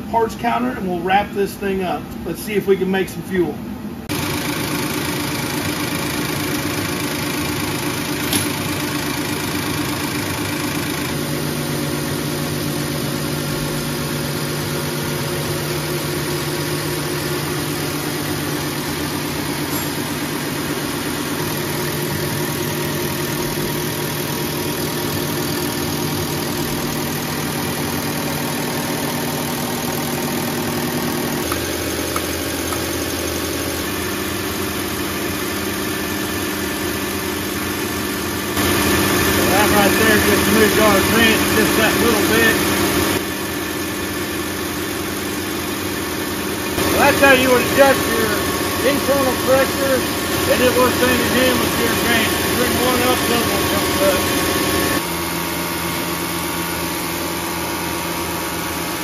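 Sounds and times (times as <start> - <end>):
test bench mechanical hum: 0.0 - 59.0.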